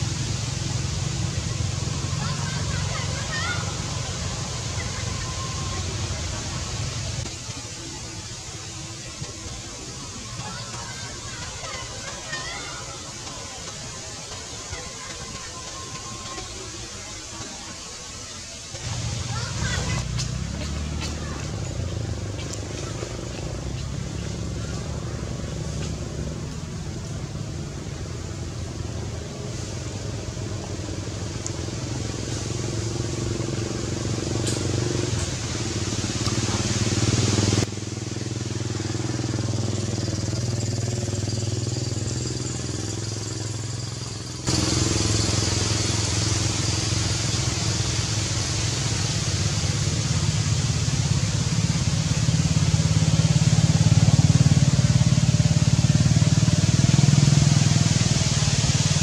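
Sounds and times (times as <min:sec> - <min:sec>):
low engine-like drone: 0:00.0 - 0:59.0
outdoor background noise: 0:00.0 - 0:59.0.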